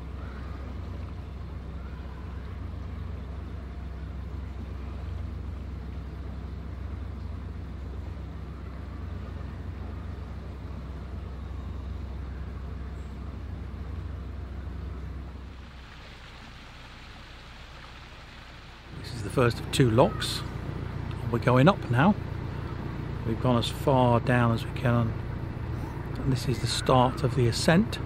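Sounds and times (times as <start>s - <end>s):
boat diesel engine humming: 0.0s - 28.0s.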